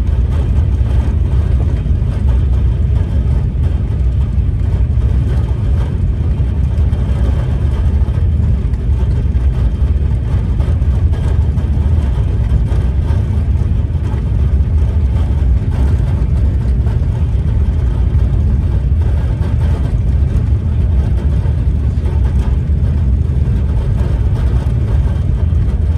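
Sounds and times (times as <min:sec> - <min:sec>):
high-speed train rumble: 0:00.0 - 0:25.9.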